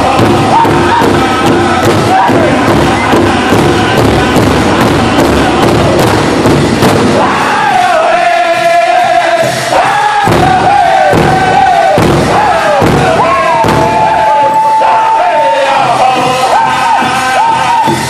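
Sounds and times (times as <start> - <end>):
high held vocal line: 0.0 - 6.0, 7.2 - 18.0
group singing: 0.0 - 6.4, 7.0 - 18.0
drum strokes: 0.0 - 18.0.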